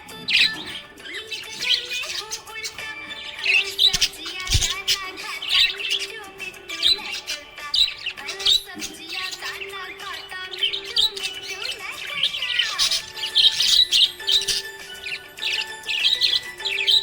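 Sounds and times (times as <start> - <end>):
budgerigars chirping and warbling: 0.0 - 17.0.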